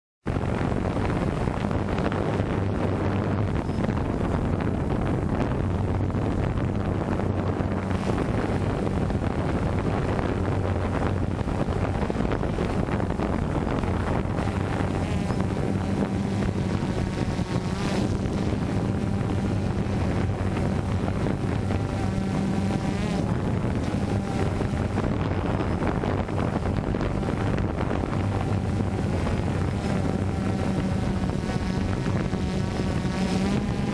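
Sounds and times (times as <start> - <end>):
wind buffeting microphone: 0.2 - 33.9
drone propellers droning: 0.3 - 33.9
motor whine wavering in pitch: 0.3 - 33.9.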